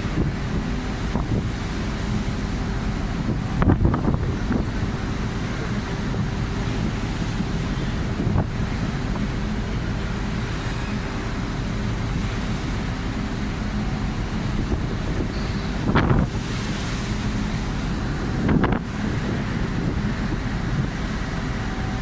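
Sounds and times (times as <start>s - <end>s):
sea waves breaking: 0.0s - 22.0s
wind buffeting microphone: 0.0s - 22.0s.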